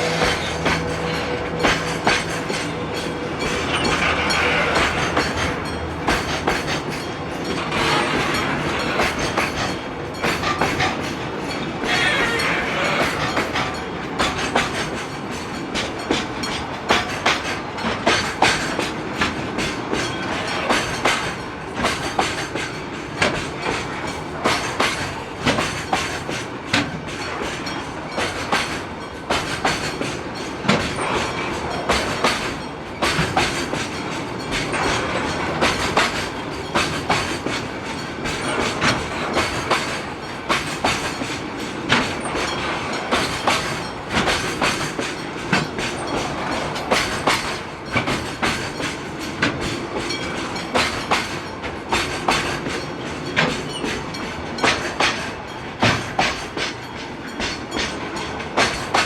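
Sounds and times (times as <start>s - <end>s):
freight train wheels clacking: 0.0s - 59.0s.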